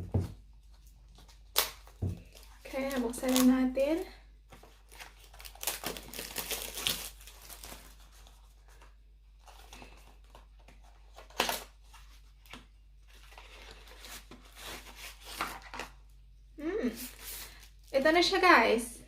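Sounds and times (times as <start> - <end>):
plastic packaging crinkling: 0.7 - 16.0.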